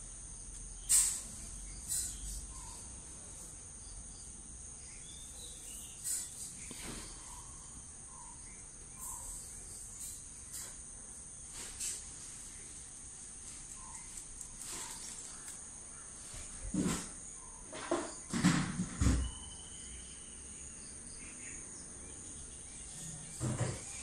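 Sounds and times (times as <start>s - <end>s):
insect chorus chirring: 0.0s - 24.0s.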